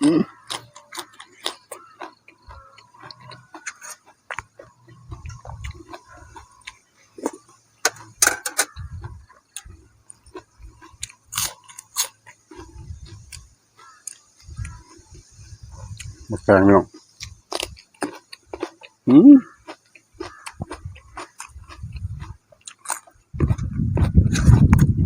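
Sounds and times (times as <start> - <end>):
man chewing and crunching food: 0.0 - 25.0.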